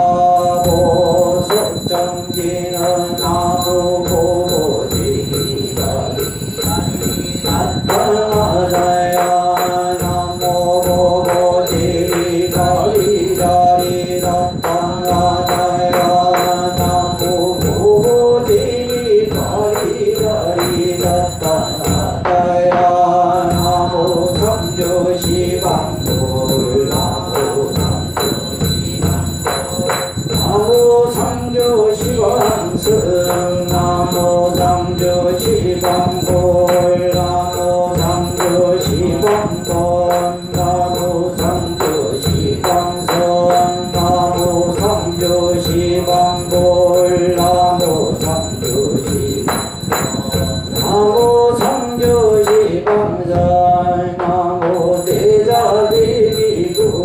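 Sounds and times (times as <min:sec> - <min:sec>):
struck percussion: 0:00.0 - 0:57.0
voices chanting long held notes: 0:00.0 - 0:57.0.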